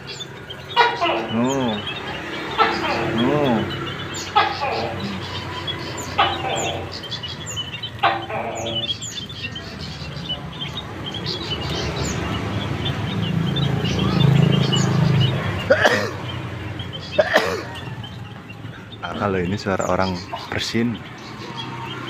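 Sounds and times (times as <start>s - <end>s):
flock of birds chirping: 0.0s - 22.0s
gecko calling: 0.0s - 22.0s.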